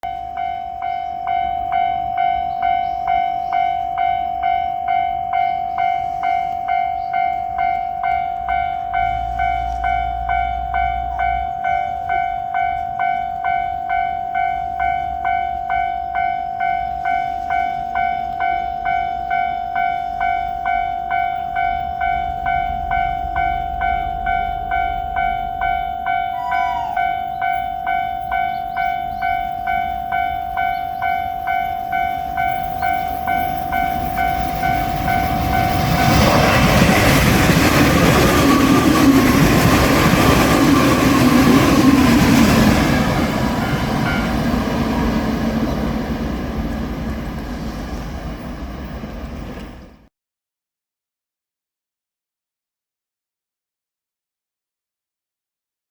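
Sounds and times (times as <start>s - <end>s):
level-crossing warning bell: 0.0s - 50.1s
train rumble: 0.0s - 50.1s.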